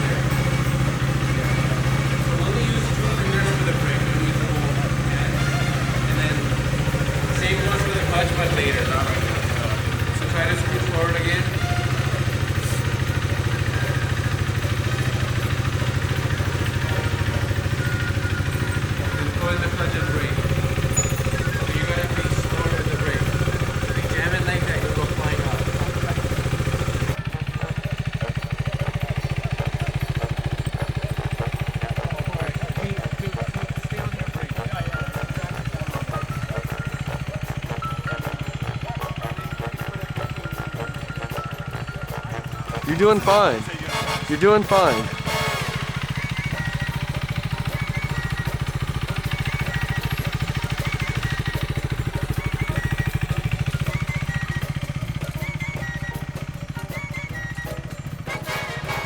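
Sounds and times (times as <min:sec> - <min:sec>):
background music: 0:00.0 - 0:59.0
motorcycle engine idling: 0:00.0 - 0:59.0.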